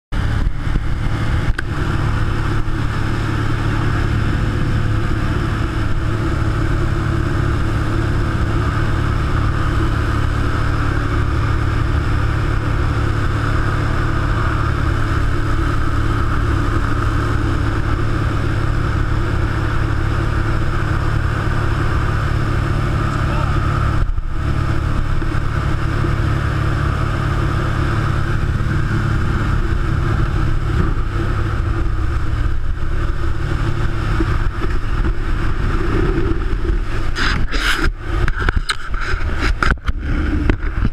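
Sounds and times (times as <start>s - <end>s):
airplane engine droning in cabin: 0.1s - 40.9s.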